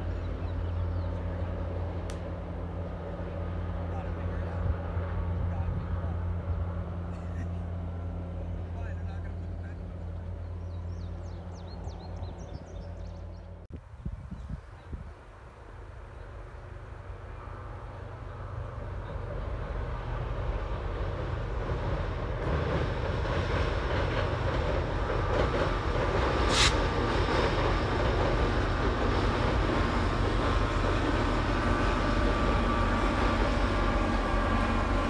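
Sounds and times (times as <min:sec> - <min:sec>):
train crossing a steel viaduct: 0:00.0 - 0:35.0.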